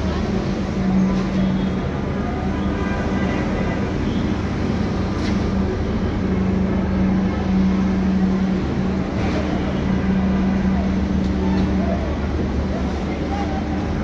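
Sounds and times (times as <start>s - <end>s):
heavy machinery engine droning: 0.0s - 14.0s.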